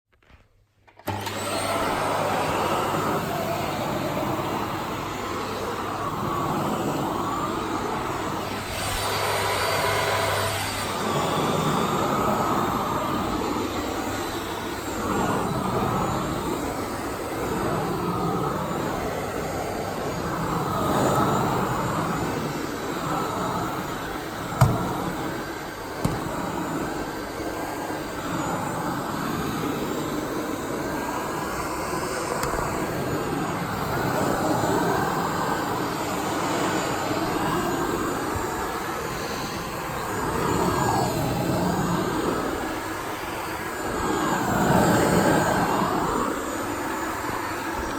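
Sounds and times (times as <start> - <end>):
vacuum cleaner whining: 0.2 - 47.9.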